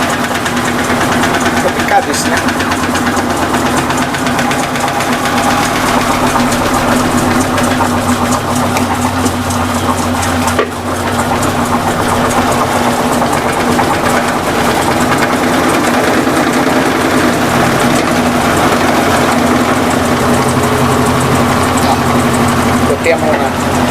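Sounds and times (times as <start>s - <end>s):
loud rattling vibration: 0.0s - 23.9s
washing machine spinning: 0.0s - 23.9s.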